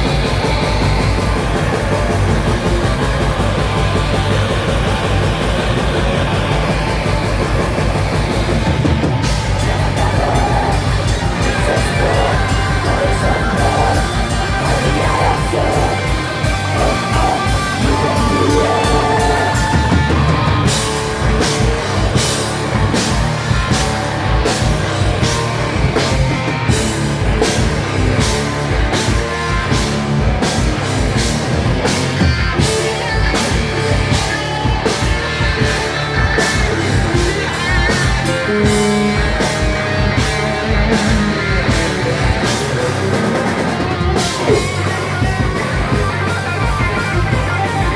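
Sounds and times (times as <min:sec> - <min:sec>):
drums fast beat: 0:00.0 - 0:47.9
rock band playing live: 0:00.0 - 0:47.9.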